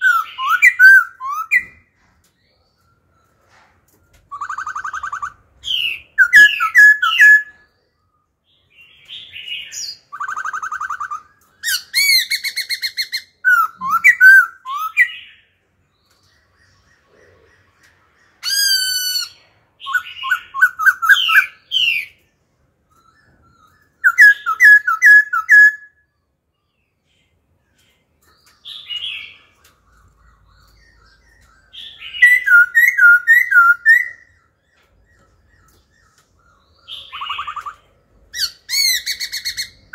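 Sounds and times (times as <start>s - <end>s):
bird singing whistles and chirps: 0.0s - 26.3s, 28.2s - 39.9s.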